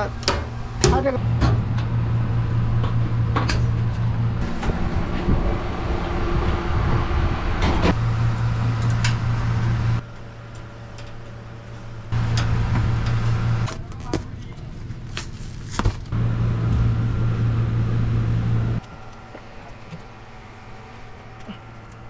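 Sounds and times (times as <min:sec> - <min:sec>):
machine humming: 0:00.0 - 0:13.7, 0:16.1 - 0:22.0
continuous mechanical noise: 0:00.0 - 0:22.0.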